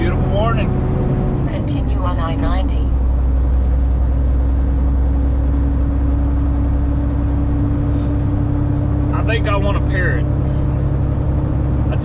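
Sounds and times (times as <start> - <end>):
constant hum tone: 0.0 - 12.0
truck engine drone: 0.0 - 12.0.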